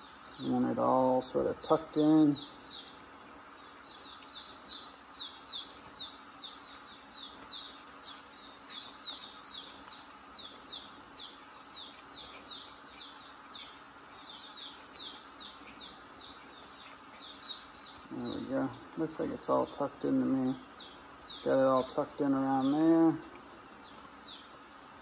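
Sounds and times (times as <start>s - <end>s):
faint steady hum: 0.0s - 25.0s
small bird chirping: 0.0s - 25.0s.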